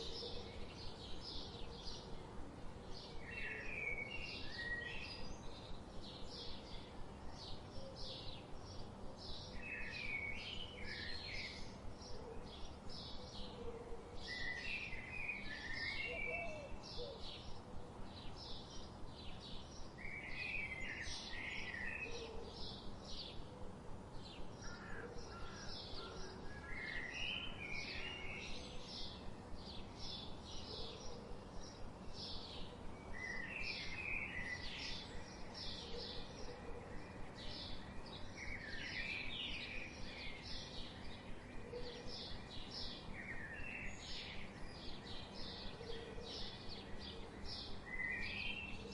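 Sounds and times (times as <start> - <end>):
lower warbling bird song: 0.0 - 48.9
soft background hiss: 0.0 - 48.9.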